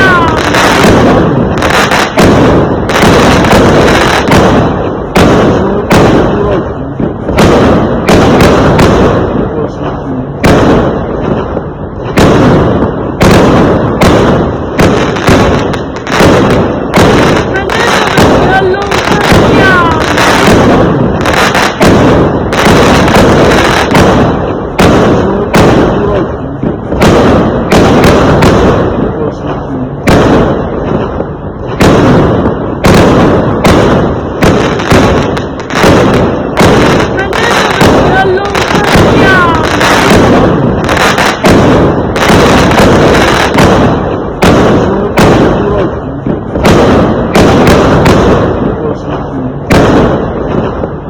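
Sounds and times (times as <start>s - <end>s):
fireworks banging: 0.0s - 51.0s.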